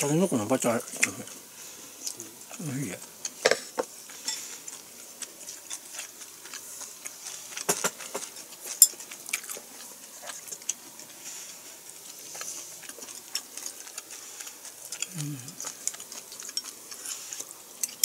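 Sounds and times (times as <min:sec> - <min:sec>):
person chewing food: 0:01.0 - 0:18.0.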